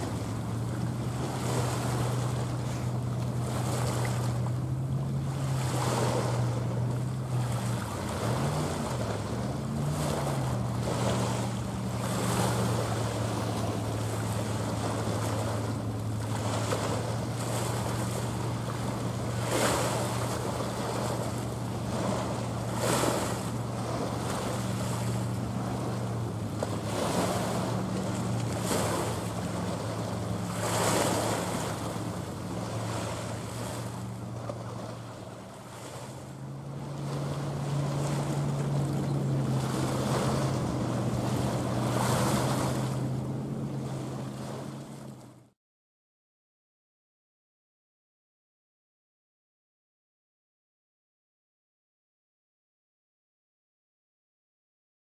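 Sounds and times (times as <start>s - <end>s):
low ship engine drone: 0.0s - 45.5s
small waves washing ashore: 0.0s - 45.6s.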